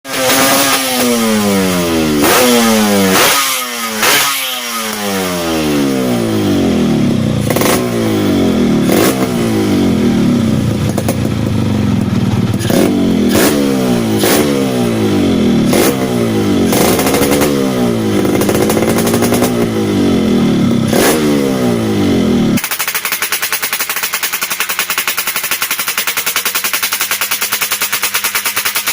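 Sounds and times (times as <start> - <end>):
motorcycle engine revving: 0.1 - 28.9.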